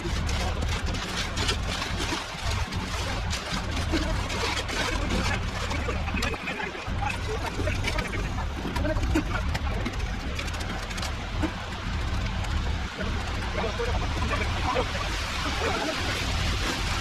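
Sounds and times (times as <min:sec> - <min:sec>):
background voices: 0:00.0 - 0:17.0
sloshing and scraping: 0:00.0 - 0:17.0.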